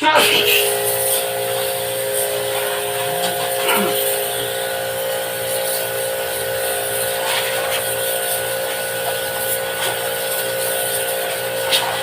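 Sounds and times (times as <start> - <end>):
small electric motor buzzing: 0.1 - 12.0
hiss: 0.6 - 12.0.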